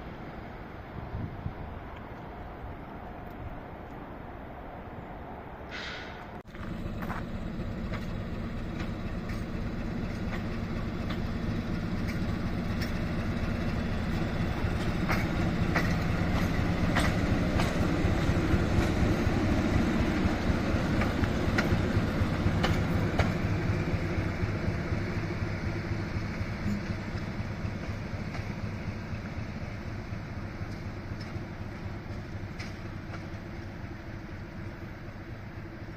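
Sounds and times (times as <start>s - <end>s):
train rumbling: 0.0s - 35.9s
wheels clicking on track: 6.5s - 35.9s.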